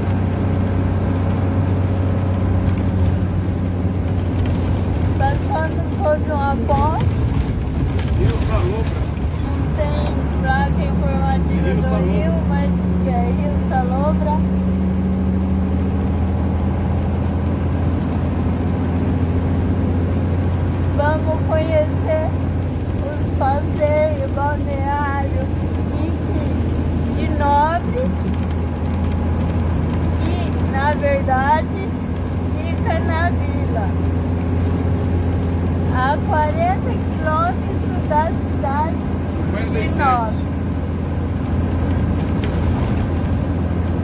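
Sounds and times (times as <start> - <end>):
vehicle engine and tyre noise: 0.0 - 44.0.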